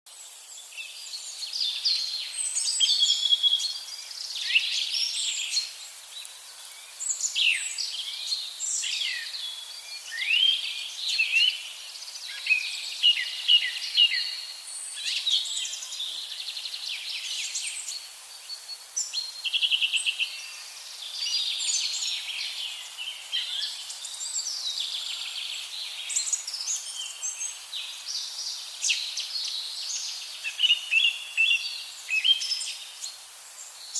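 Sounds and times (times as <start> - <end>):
birds chirping and trilling: 0.6 - 33.9.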